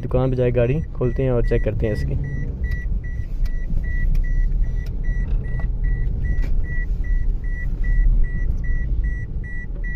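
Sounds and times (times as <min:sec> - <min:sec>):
car engine rumbling: 0:00.0 - 0:09.9
high-pitched warning beeps: 0:00.8 - 0:09.9.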